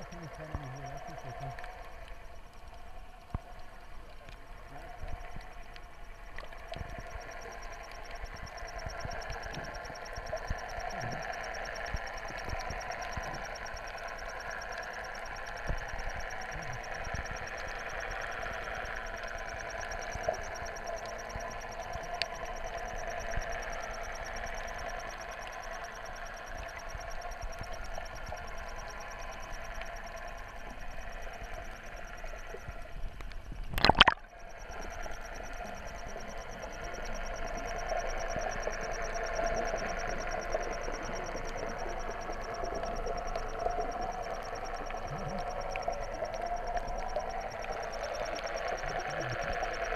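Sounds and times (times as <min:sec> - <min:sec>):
faint clicks: 0:00.0 - 0:49.9
underwater hum: 0:00.0 - 0:49.9.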